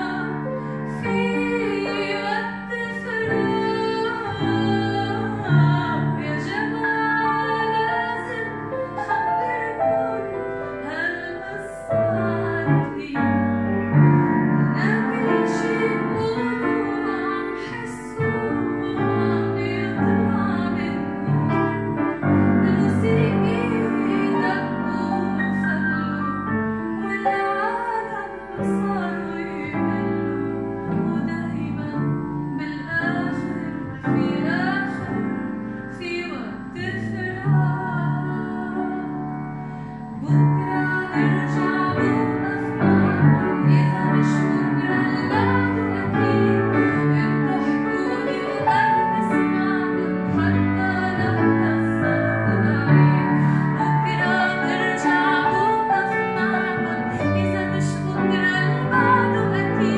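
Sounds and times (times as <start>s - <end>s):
grand piano accompaniment: 0.0s - 59.9s
woman singing: 0.0s - 59.9s.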